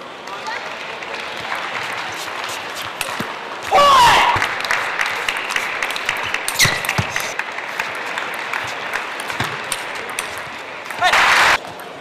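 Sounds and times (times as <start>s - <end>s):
crowd clapping: 0.2s - 11.6s.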